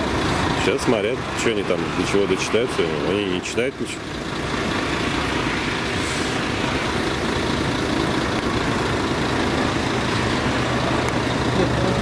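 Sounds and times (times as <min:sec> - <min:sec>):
road noise: 0:00.0 - 0:12.0
truck engine running: 0:00.0 - 0:12.0.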